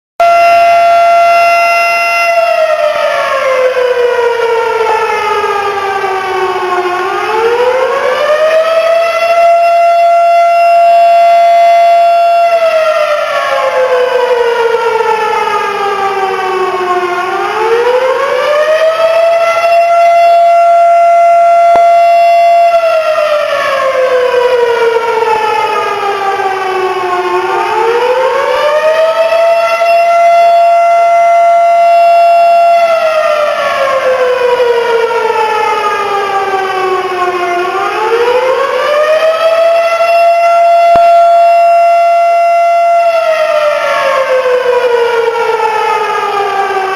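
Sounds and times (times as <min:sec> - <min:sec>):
fire siren wailing: 0:00.2 - 0:46.9.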